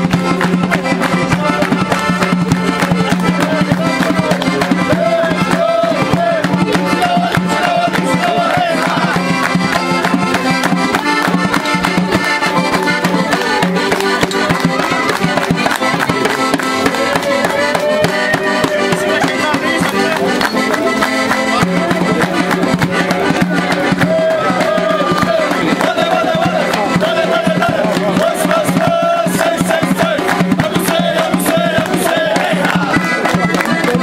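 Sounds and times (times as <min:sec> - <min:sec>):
accordion dance music: 0:00.0 - 0:34.0
hand-clapping beat: 0:00.0 - 0:34.0.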